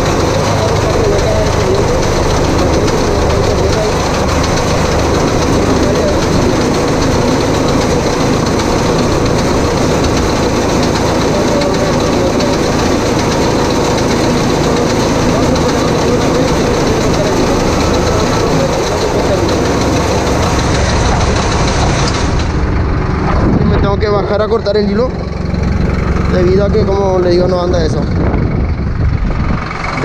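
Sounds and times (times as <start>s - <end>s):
baler rollers running: 0.0s - 30.0s
tractor engine running: 0.0s - 30.0s.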